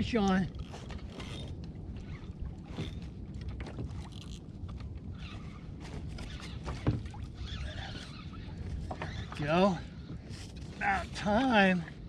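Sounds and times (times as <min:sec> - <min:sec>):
water lapping against kayak hull: 0:00.0 - 0:12.0
wind and sea rush: 0:00.0 - 0:12.0.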